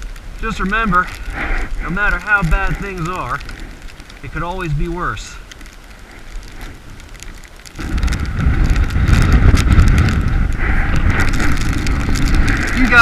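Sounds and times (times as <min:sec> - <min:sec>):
sleet ticking: 0:00.0 - 0:13.0
wind gust buffeting microphone: 0:00.0 - 0:13.0.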